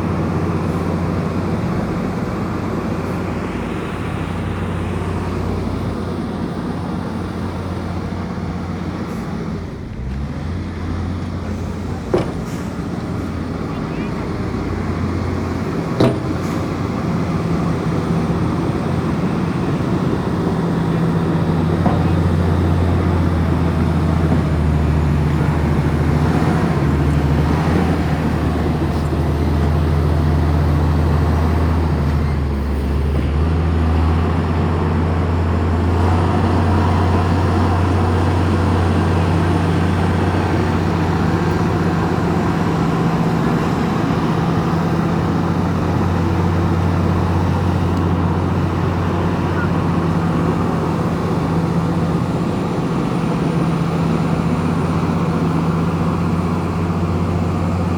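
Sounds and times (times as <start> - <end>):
bulldozer diesel engine under load: 0.0 - 57.9.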